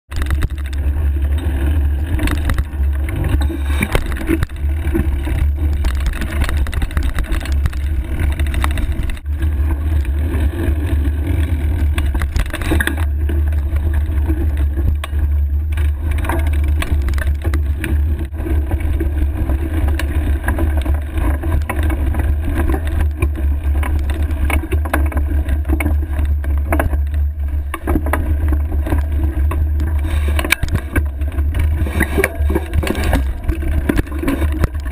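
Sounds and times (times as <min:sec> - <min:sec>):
bike knocks and rattles: 0:00.1 - 0:34.9
low rumble of wind and vibration: 0:00.1 - 0:34.9.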